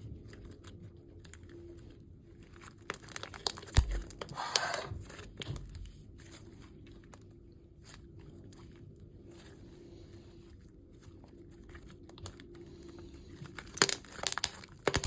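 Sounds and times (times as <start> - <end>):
slime squishing and crackling: 0.0 - 15.0.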